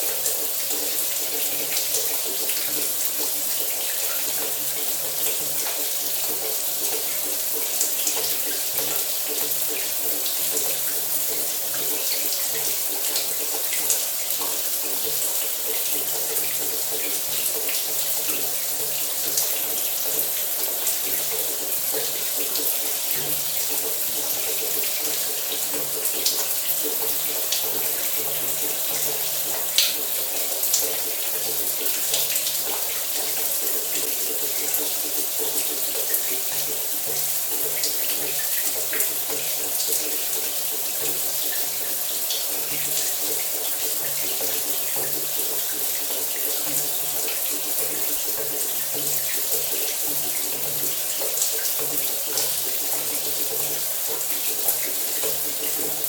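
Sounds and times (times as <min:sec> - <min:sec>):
shower water running: 0:00.0 - 0:56.0.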